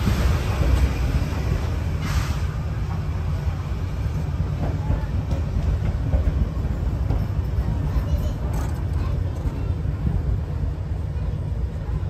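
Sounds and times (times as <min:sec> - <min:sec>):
train carriages rumbling past: 0:00.0 - 0:12.0.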